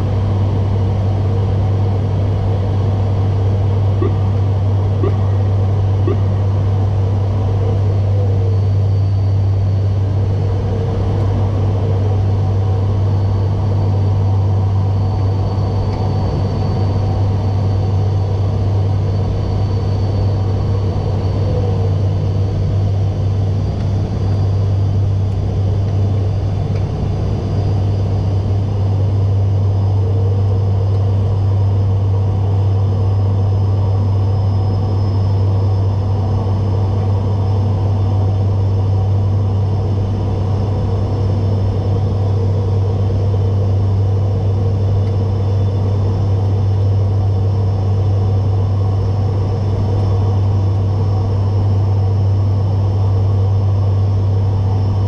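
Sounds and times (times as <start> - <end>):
propeller drone: 0.0 - 55.0.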